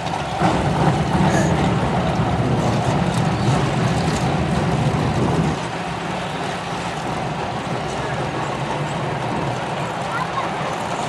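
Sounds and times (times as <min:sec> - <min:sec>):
race car engines rumbling: 0:00.0 - 0:11.0.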